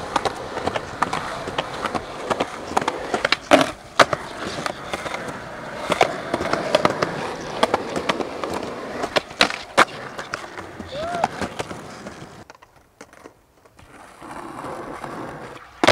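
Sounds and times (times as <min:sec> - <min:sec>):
skateboard clacks and snaps: 0:00.0 - 0:15.9
skateboard wheels rolling on concrete: 0:00.0 - 0:15.9.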